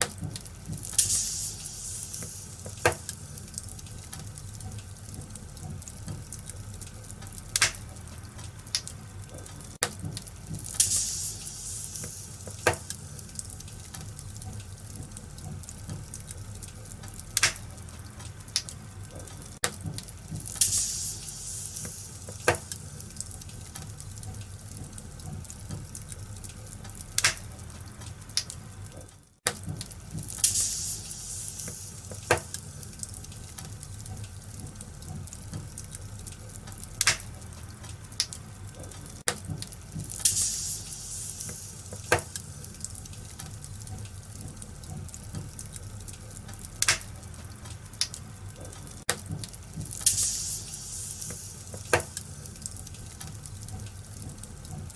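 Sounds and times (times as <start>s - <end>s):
fire crackles and pops: 0.0s - 54.9s
wood fire hissing: 0.0s - 54.9s.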